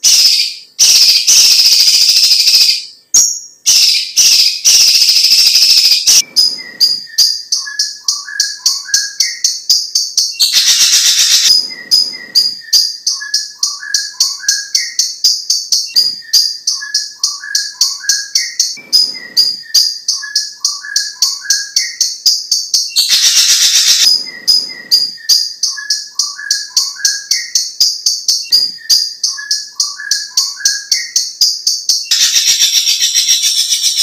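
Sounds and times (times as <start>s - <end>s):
bird song: 0.0s - 34.0s
bird trill: 0.0s - 34.0s.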